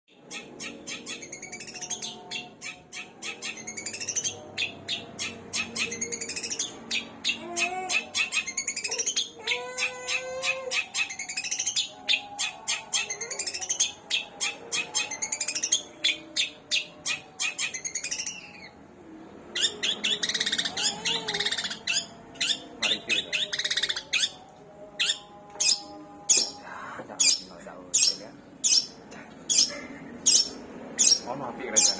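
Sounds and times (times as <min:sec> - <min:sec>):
bird singing: 0:00.1 - 0:18.8, 0:19.4 - 0:31.9.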